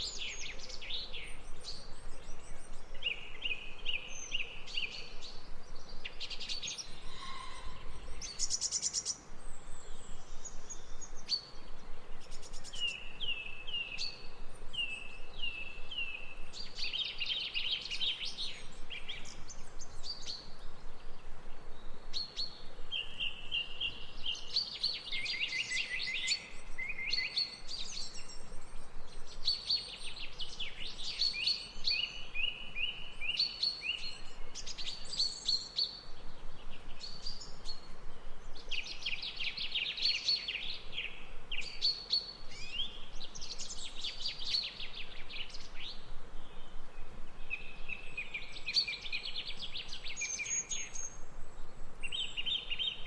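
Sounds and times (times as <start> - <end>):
outdoor ambience hiss: 0.0 - 53.0
songbirds singing and chirping: 0.0 - 53.0.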